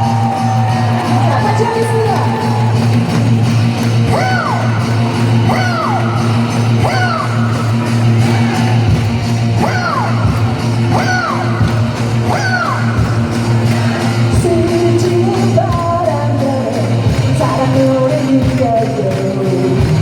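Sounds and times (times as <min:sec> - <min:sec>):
pop-rock band music over loudspeakers: 0:00.0 - 0:20.0.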